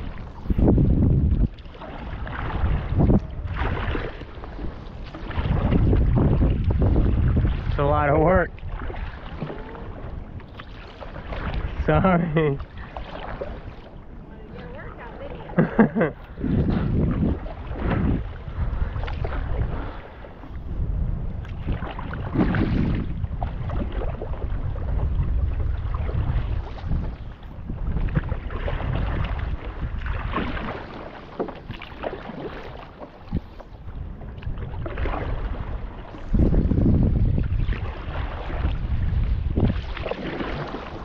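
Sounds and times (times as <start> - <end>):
paddle splashing through water: 0.0 - 41.0
wind buffeting microphone: 0.0 - 41.0.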